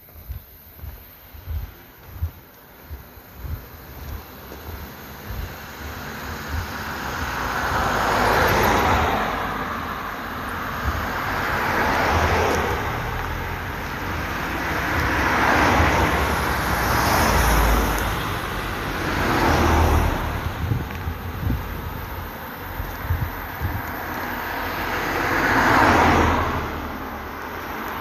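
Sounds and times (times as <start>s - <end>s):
cars passing on road: 0.0s - 28.0s.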